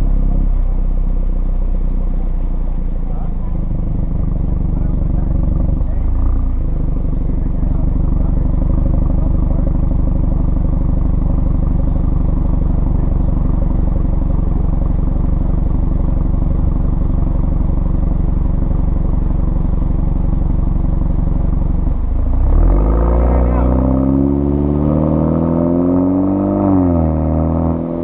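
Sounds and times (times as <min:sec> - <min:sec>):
car exhaust cruising: 0:00.0 - 0:28.0
road noise: 0:00.0 - 0:28.0.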